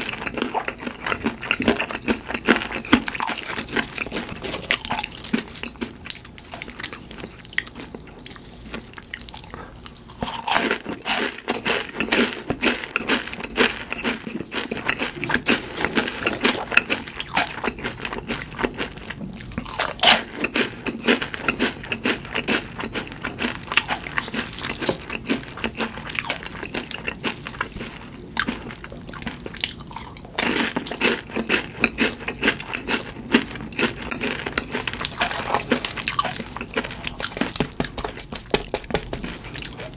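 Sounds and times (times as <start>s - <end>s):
crunchy chewing of fried food: 0.0s - 39.9s.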